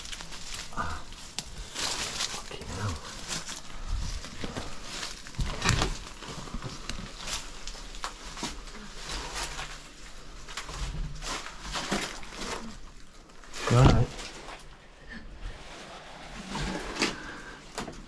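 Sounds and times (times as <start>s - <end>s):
footsteps crunching over debris: 0.0s - 14.8s.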